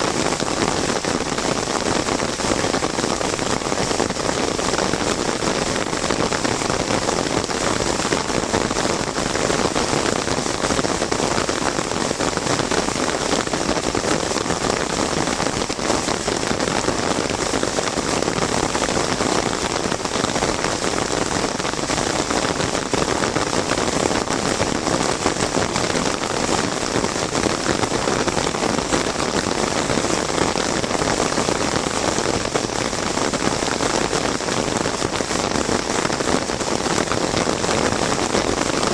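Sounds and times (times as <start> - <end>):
heavy rain drumming on umbrella: 0.0 - 38.9.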